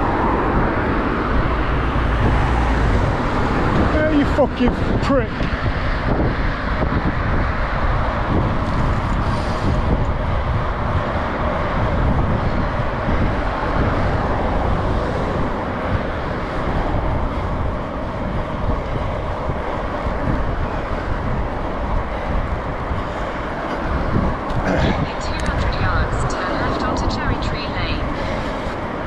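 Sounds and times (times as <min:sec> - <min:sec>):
bicycle road noise: 0:00.0 - 0:29.0
passing motor traffic: 0:00.0 - 0:29.0
wind noise on microphone: 0:00.0 - 0:29.0.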